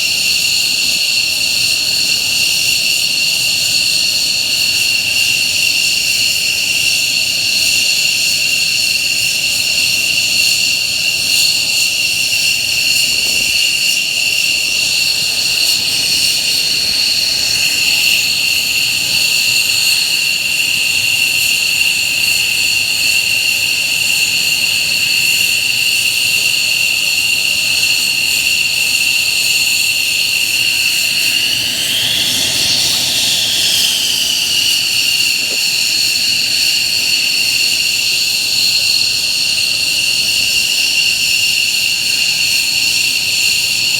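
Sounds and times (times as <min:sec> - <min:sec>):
jet engines idling with whine: 0:00.0 - 0:43.9.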